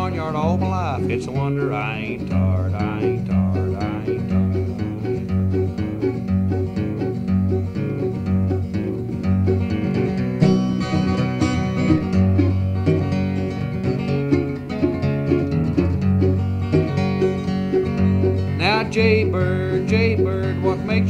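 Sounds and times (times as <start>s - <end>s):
plucked acoustic strings: 0.0s - 21.0s
rhythmic bass line: 0.0s - 21.0s.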